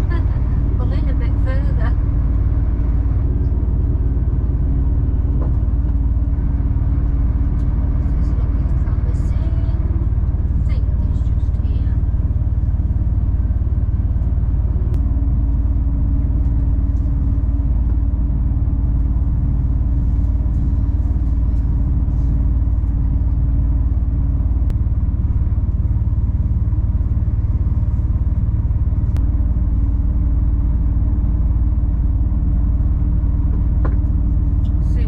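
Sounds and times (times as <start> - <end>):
lorry engine drone: 0.0 - 35.0.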